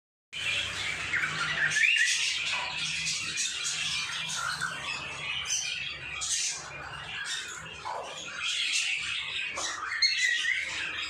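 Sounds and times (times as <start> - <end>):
pet birds squawking and chirping: 0.4 - 11.0.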